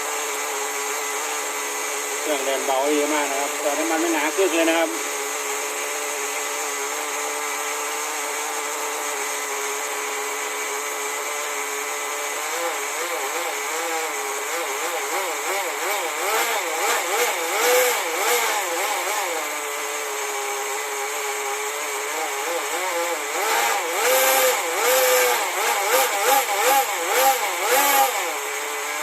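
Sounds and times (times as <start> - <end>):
small nitro engine idling and blipping: 0.0 - 29.0.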